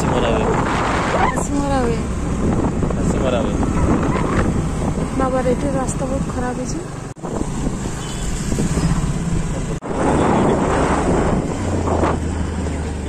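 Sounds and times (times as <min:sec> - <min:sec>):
wind rushing over microphone: 0:00.0 - 0:12.8
vehicle engine hum: 0:00.0 - 0:13.0.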